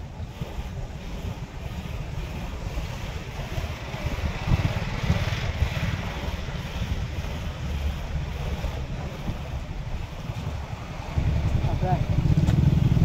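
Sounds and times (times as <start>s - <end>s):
traffic engines rumbling: 0.0s - 13.0s
wind buffeting microphone: 0.0s - 13.0s.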